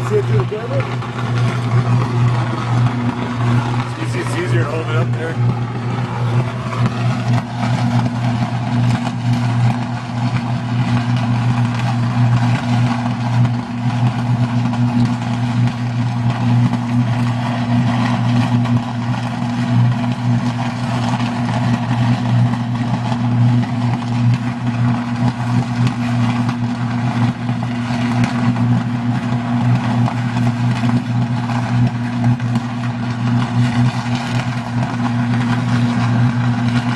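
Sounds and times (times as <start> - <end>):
electrical crackling: 0.0 - 36.9.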